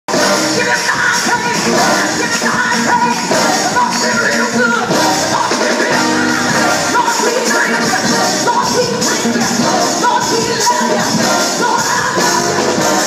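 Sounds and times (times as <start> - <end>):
drums: 0.1 - 13.0
keyboard: 0.1 - 13.0
women singing gospel: 0.1 - 13.0.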